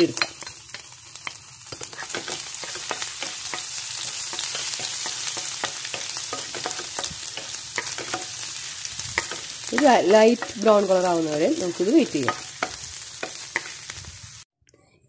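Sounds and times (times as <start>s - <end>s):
garlic sizzling in oil: 0.0s - 14.5s.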